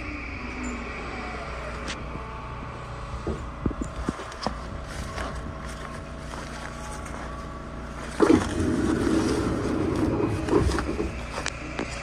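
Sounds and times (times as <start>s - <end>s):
train equipment humming: 0.0s - 12.0s.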